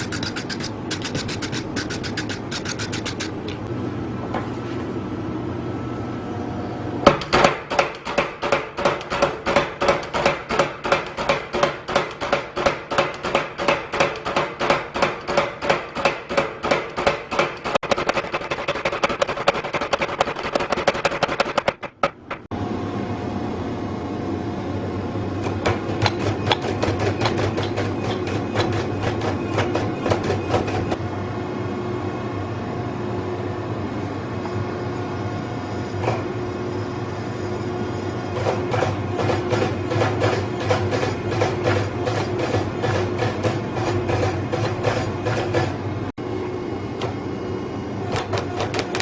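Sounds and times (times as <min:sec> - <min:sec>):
mechanical hum: 0:00.0 - 0:49.0.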